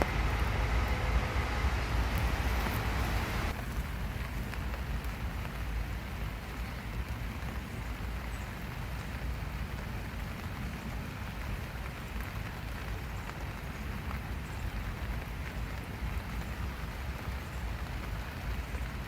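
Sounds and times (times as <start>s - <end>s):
constant low rumble: 0.0s - 19.0s
steady rain falling: 0.0s - 19.0s.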